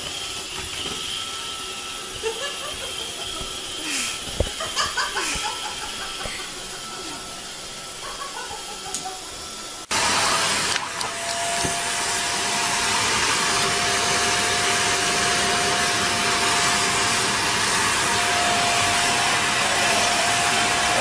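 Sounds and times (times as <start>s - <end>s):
vacuum cleaner whining: 0.0s - 21.0s.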